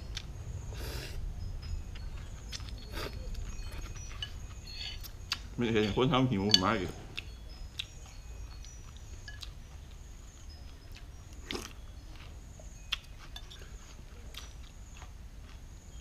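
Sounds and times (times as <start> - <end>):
faint chewing: 1.9 - 16.0.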